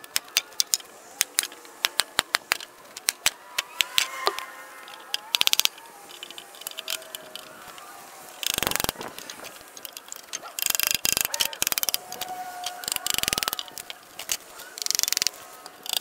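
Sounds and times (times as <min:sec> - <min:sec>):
dense wooden rattle: 0:00.0 - 0:16.0.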